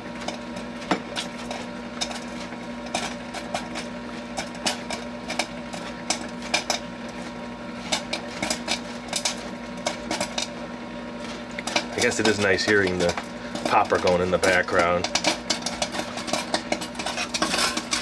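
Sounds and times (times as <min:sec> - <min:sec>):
popcorn kernels popping: 0:00.0 - 0:18.0
popcorn machine humming: 0:00.0 - 0:18.0.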